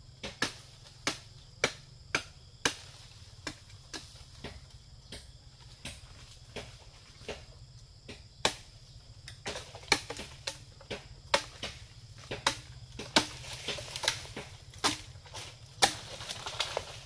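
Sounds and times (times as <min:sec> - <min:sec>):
blade chopping bamboo: 0:00.2 - 0:07.5, 0:08.1 - 0:17.0.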